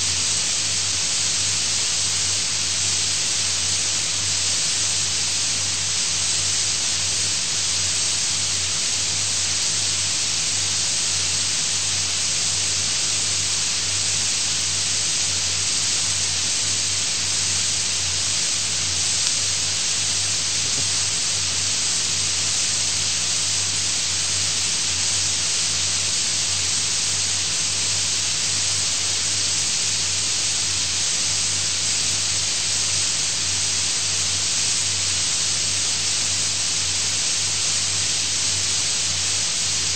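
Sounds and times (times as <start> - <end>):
steady recording hiss: 0.0 - 39.9.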